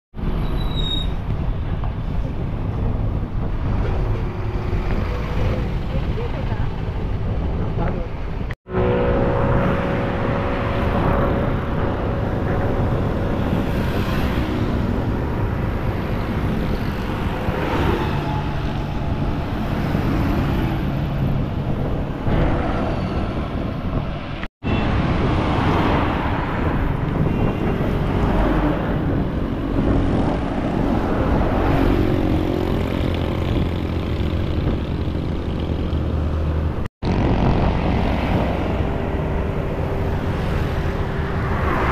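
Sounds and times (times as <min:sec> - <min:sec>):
highway traffic passing: 0:00.2 - 0:41.9.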